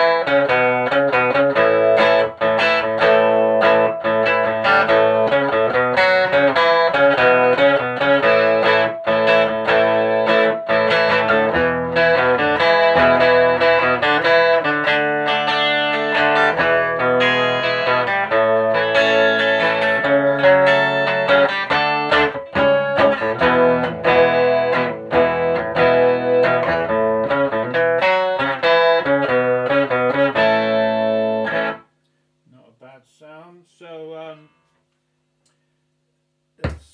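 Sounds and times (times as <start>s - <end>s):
electric guitar chords and notes: 0.0s - 32.2s.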